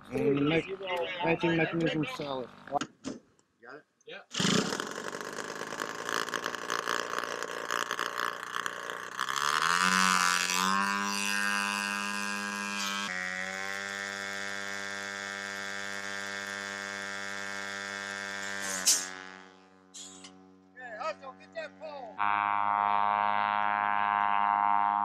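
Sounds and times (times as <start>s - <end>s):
propeller engine revving to a whine: 4.4s - 25.0s.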